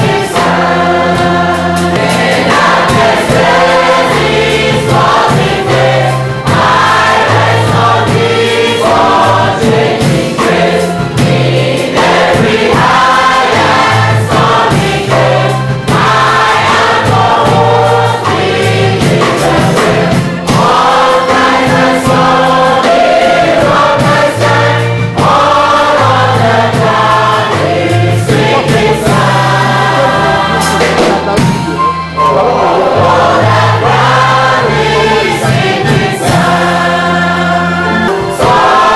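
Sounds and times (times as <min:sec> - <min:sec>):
band bass and beat: 0:00.0 - 0:38.9
congregation singing a hymn: 0:00.0 - 0:38.9.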